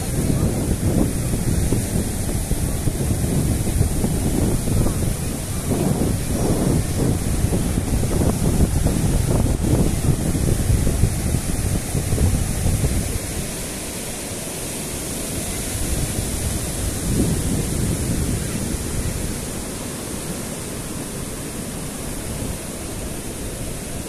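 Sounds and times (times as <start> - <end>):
wind buffeting microphone: 0.0 - 14.0, 15.1 - 20.8
surf washing on beach: 0.0 - 24.0.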